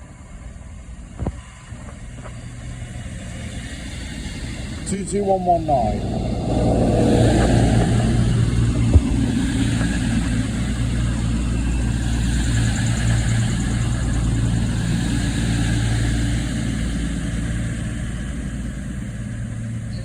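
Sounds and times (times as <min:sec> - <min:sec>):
train diesel engines humming: 0:00.0 - 0:20.0.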